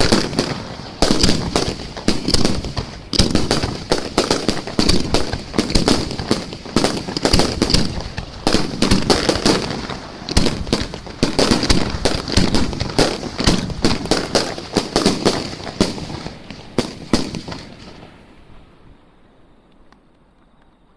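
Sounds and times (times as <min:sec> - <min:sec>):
fireworks bangs and crackling: 0:00.0 - 0:18.7.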